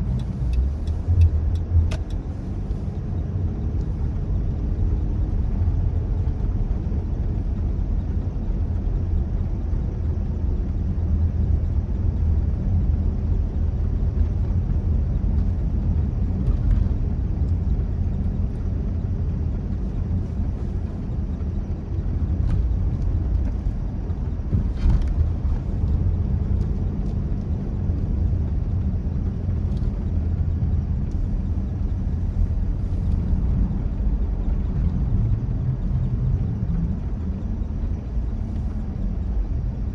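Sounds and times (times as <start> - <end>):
car engine and tyres droning: 0.0 - 39.9.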